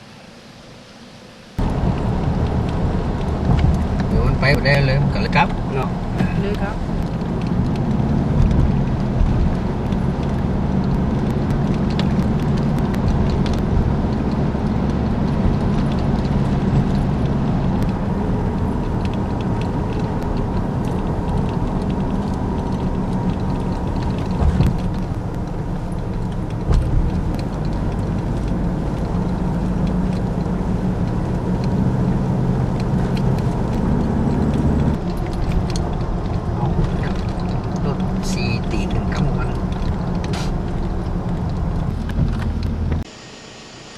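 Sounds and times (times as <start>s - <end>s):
vehicle engine running: 1.6s - 43.1s.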